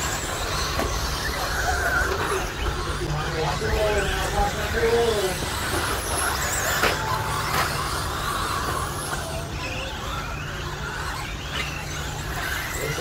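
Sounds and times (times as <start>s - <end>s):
electric motors whining: 0.0s - 13.0s
steady low hum: 0.0s - 13.0s.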